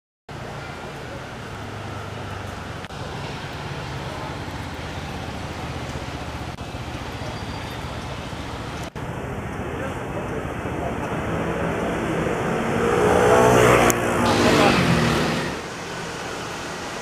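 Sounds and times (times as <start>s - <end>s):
traffic hum of passing vehicles: 0.3s - 17.0s.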